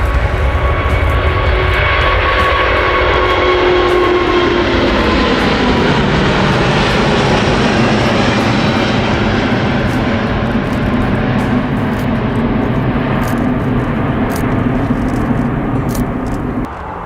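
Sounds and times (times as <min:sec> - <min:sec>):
airliner engines passing: 0:00.0 - 0:17.0
engine whine: 0:00.0 - 0:17.0.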